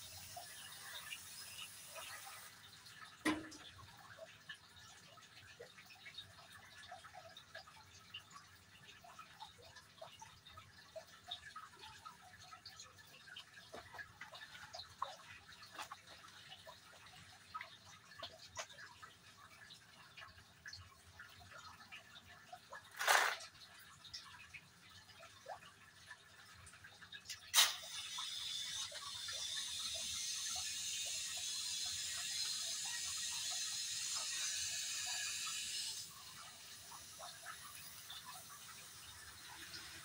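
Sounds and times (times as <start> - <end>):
water drips: 0.0 - 40.0.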